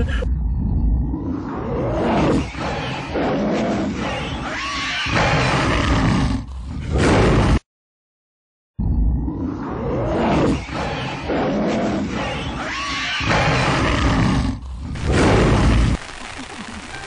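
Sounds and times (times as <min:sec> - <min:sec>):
loud roaring growls: 0:00.5 - 0:07.6, 0:08.9 - 0:15.9.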